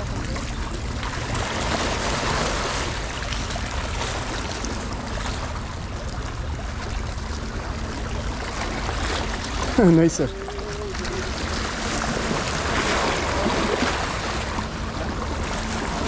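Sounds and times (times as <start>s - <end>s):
sea waves on shore: 0.0s - 16.0s
wind: 0.0s - 16.0s.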